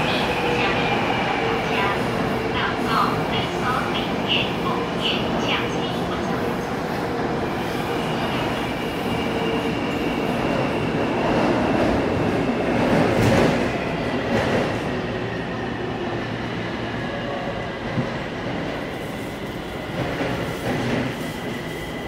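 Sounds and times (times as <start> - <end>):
subway wheels rumbling: 0.0 - 22.0.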